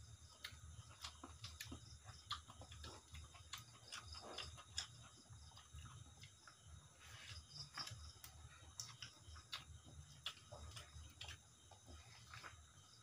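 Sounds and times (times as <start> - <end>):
low steady hum: 0.0 - 13.0
eating clicks and smacks: 0.2 - 6.7, 7.6 - 12.7.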